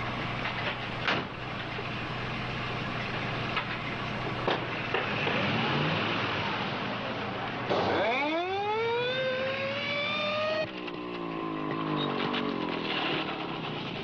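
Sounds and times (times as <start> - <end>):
car engine starting and running: 0.0 - 14.0.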